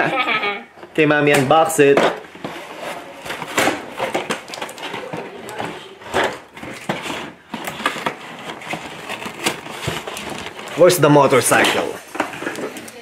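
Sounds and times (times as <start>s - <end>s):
cardboard packaging rustling and knocking: 0.8s - 13.0s.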